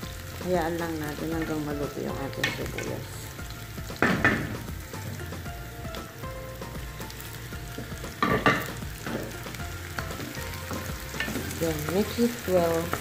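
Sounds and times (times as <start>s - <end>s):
garlic and onion sizzling in oil: 0.0s - 13.0s.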